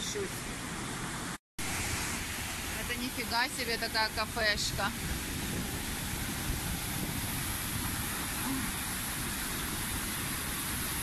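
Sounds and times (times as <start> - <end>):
waterfall crashing: 1.1 - 11.0.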